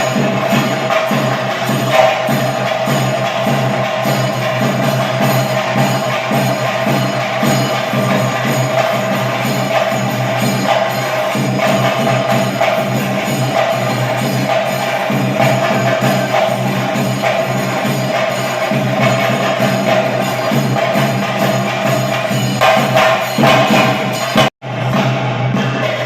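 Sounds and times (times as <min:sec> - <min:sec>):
drums played fast: 0:00.0 - 0:26.0
jingling hand cymbals: 0:00.0 - 0:26.0.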